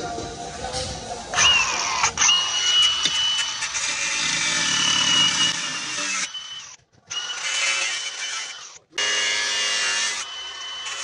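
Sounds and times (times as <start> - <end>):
angle grinder cutting steel: 1.4 - 11.0.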